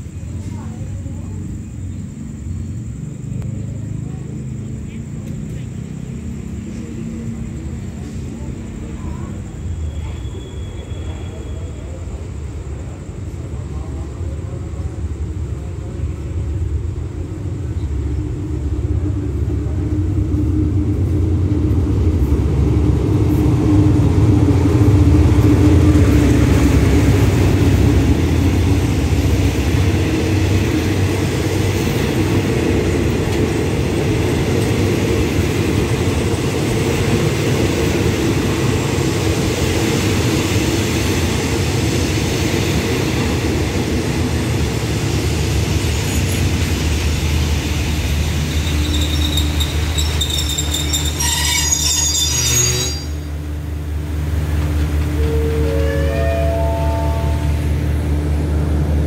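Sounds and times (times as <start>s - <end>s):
locomotive engine drone: 0.0s - 59.0s
train wheels rumbling on rails: 0.0s - 59.0s.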